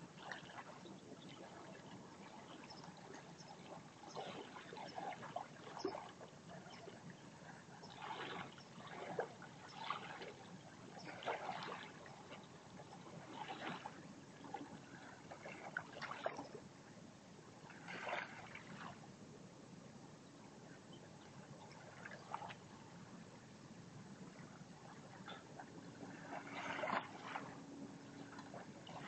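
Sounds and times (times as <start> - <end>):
seawater lapping at shore: 0.0 - 29.0.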